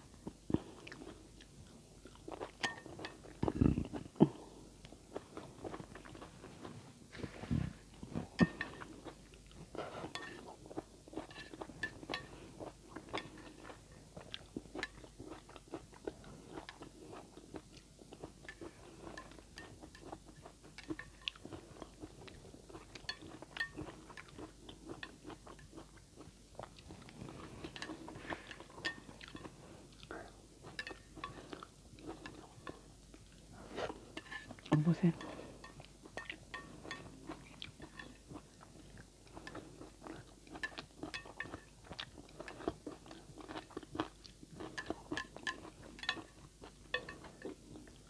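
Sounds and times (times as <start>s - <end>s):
person chewing noodles: 0.0s - 48.0s.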